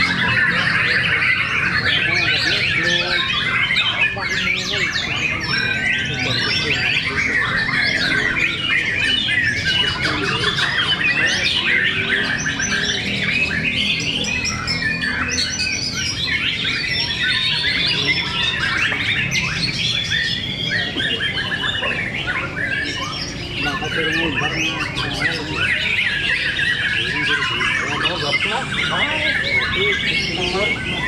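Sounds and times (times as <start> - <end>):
many songbirds singing: 0.0 - 31.0.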